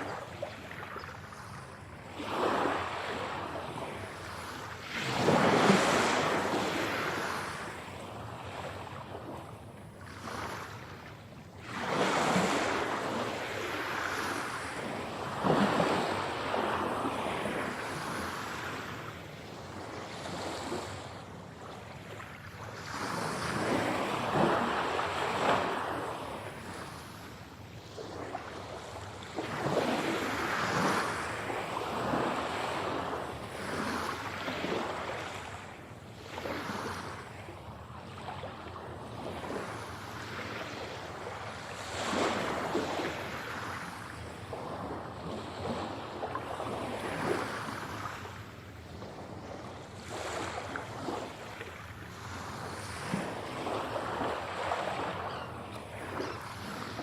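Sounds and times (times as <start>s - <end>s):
sea waves breaking: 0.0s - 37.5s, 38.2s - 57.0s.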